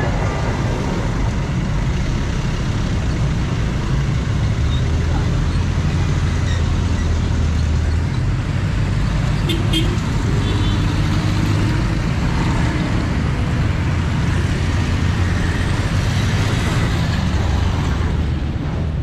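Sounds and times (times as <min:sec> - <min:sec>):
road traffic passing: 0:00.0 - 0:19.0
scooters and motorcycles: 0:00.0 - 0:19.0.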